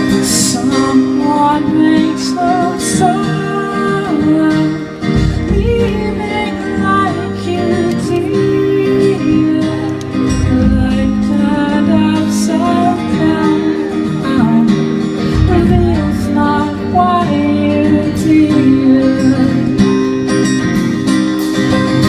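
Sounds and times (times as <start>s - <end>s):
live band with acoustic guitar: 0.0s - 22.0s.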